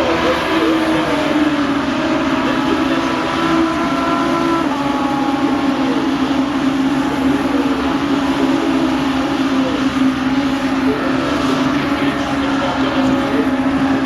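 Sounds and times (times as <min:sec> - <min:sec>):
racing car engines droning: 0:00.0 - 0:14.0
racing car passing by: 0:00.0 - 0:14.0.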